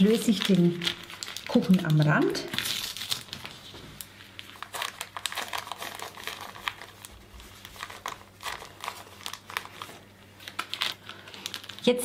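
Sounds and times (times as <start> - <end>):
baking paper crinkling: 0.0 - 12.0.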